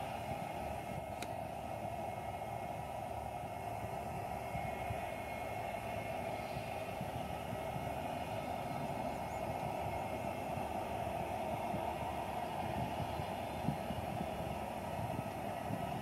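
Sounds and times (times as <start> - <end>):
distant jet engines humming: 0.0 - 16.0.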